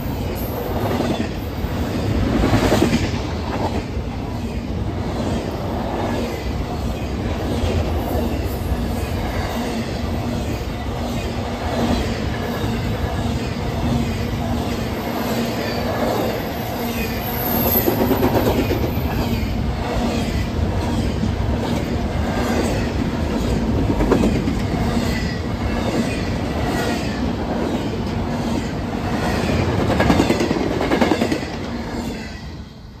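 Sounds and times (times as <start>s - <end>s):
freight train wheels rumbling: 0.0s - 33.0s
clickety-clack over rail joints: 0.8s - 32.5s.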